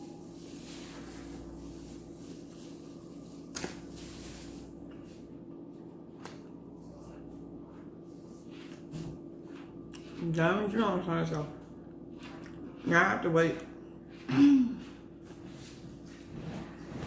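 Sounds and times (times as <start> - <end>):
rustling and crunching of eating: 0.0 - 17.0
steady low hum: 0.0 - 17.0.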